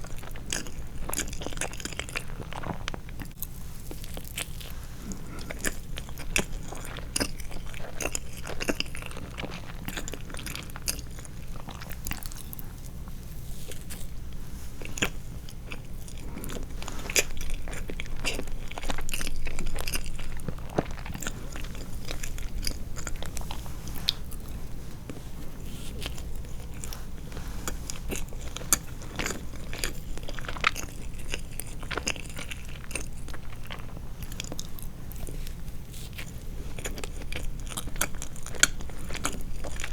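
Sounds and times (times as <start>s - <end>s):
chewing with wet mouth clicks: 0.0s - 14.1s, 14.8s - 39.9s
low steady hum: 0.0s - 39.9s.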